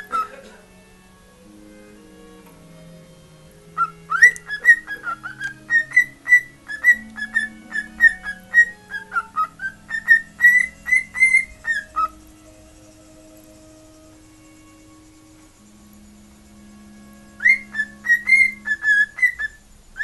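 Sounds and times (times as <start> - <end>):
cockatiel whistling: 0.0 - 0.4, 1.7 - 20.0
faint radio music: 0.0 - 20.0.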